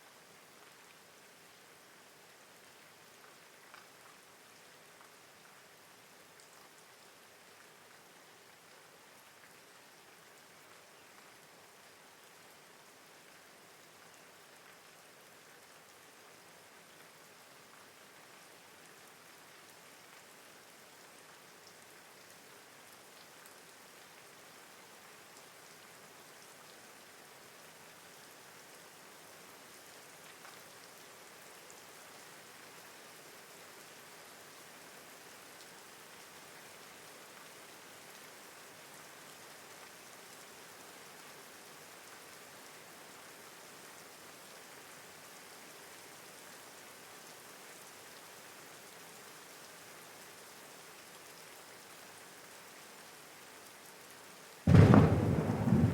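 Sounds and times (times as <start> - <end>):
faint rain falling: 0.0 - 55.9
ticks of raindrops: 2.2 - 55.9.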